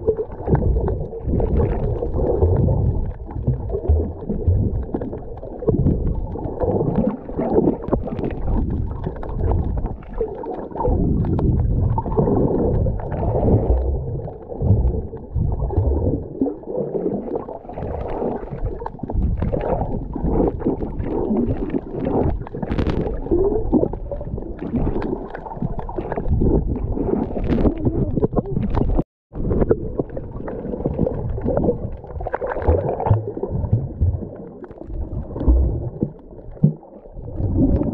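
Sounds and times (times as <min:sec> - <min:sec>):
underwater gurgling and bubbles: 0:00.0 - 0:37.9.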